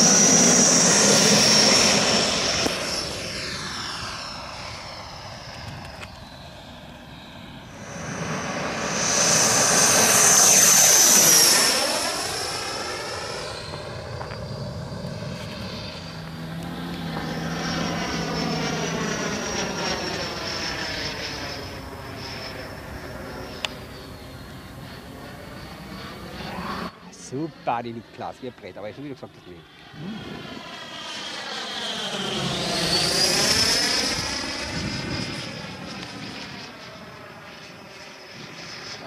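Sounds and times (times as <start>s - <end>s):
model jet fan whining: 0.0s - 39.0s.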